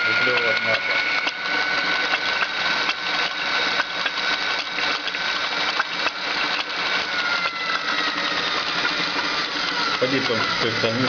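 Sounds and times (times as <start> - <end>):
electric drill motor whine: 0.0 - 11.0.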